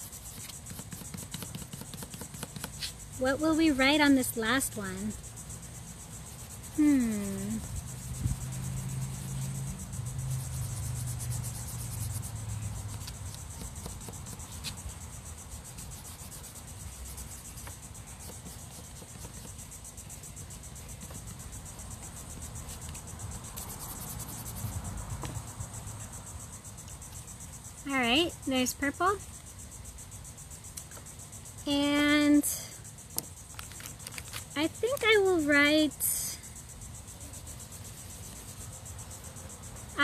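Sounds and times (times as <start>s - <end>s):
high-pitched insect trill: 0.0s - 40.0s.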